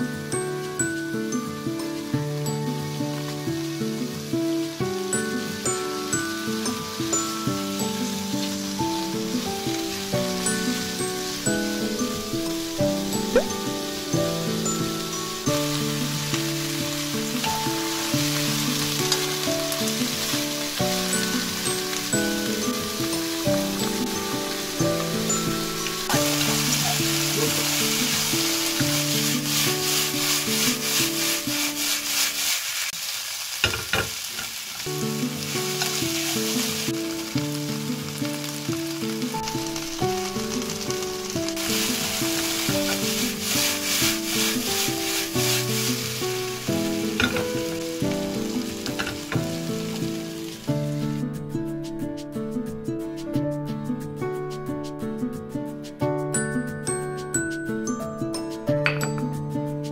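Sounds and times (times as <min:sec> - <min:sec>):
instrumental background music: 0:00.0 - 0:32.3, 0:34.8 - 0:59.9
vegetables sizzling in hot oil: 0:00.0 - 0:52.0.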